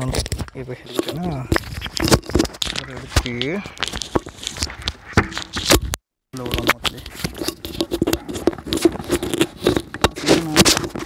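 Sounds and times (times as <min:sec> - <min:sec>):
microphone scratching on helmet lining: 0:00.0 - 0:11.0.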